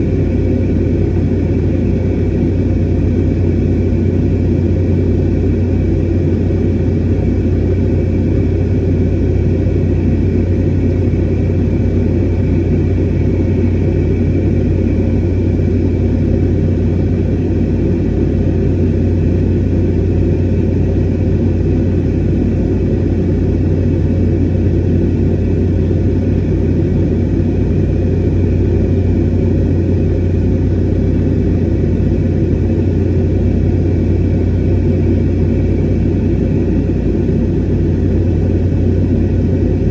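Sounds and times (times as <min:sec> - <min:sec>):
jet engine drone and airflow: 0:00.0 - 0:39.9.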